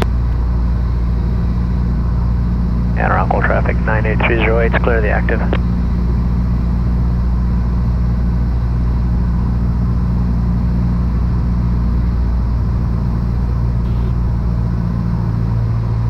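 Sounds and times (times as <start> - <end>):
airplane engine droning in cabin: 0.0 - 16.0.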